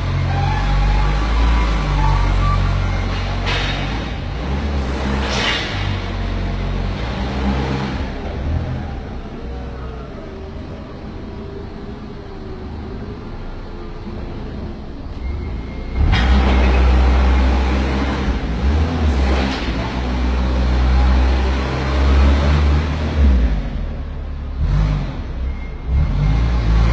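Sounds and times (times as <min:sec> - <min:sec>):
forklift engine idling and revving: 0:00.0 - 0:26.9.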